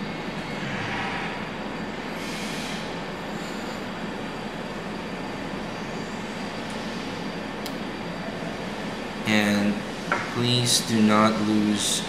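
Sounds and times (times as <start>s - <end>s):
background hiss and hum: 0.0s - 12.0s.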